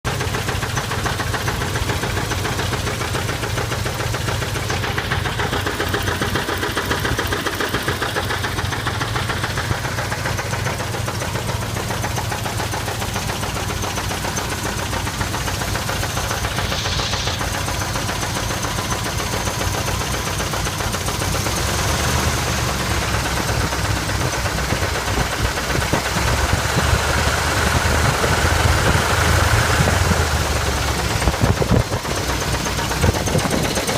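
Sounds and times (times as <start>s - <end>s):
engine idling with knock: 0.0s - 33.9s.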